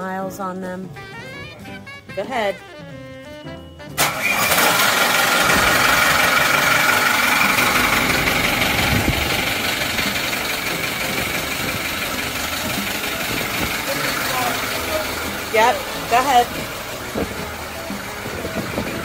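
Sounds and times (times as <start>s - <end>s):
diesel engines idling: 2.6s - 19.0s.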